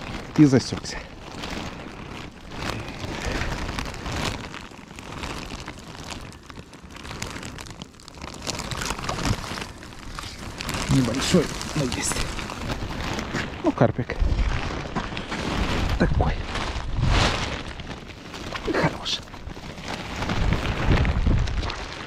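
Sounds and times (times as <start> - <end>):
rustling: 0.0 - 22.0.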